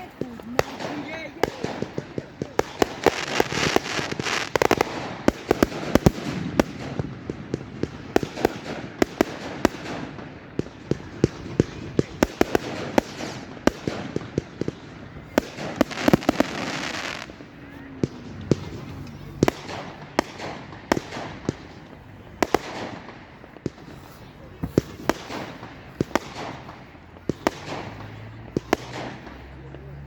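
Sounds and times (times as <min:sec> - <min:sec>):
fireworks bangs and pops: 0:00.0 - 0:30.0
fireworks crackling: 0:00.0 - 0:30.0.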